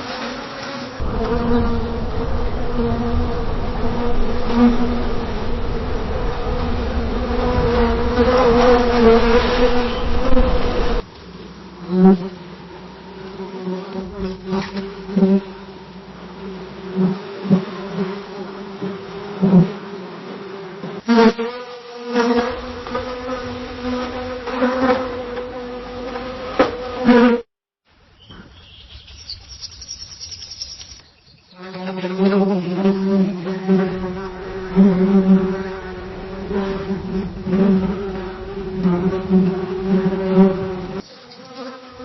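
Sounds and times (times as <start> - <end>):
bee buzzing in flight: 0.0 - 27.5, 29.5 - 42.0.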